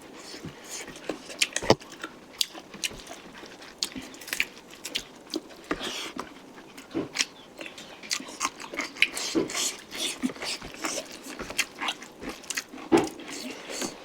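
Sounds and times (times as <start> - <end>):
chewing and mouth smacking: 0.1 - 14.0.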